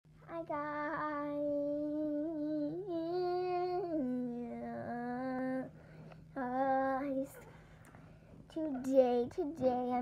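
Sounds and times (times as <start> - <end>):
faint low hum: 0.1 - 10.0.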